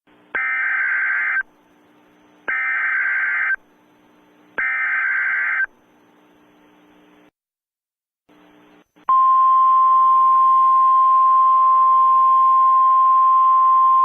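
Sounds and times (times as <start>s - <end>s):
faint steady hum: 0.1s - 7.3s, 8.3s - 14.0s.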